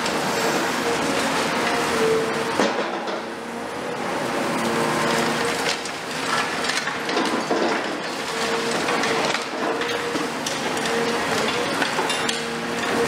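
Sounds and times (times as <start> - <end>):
excavator engine hum: 0.0 - 13.0.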